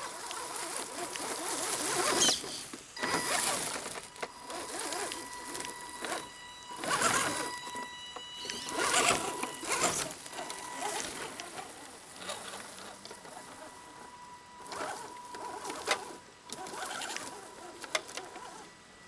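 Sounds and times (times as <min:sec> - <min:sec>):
tyres rustling through brush: 0:00.0 - 0:18.7
electric motor whining: 0:00.0 - 0:19.0.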